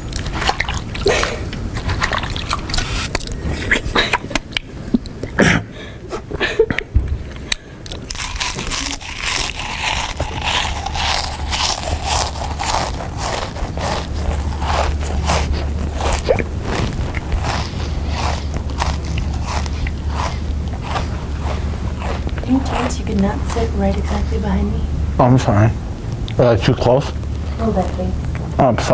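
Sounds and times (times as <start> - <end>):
person chewing crunchily: 0.0 - 5.4, 6.8 - 25.1
low steady hum: 0.0 - 28.9.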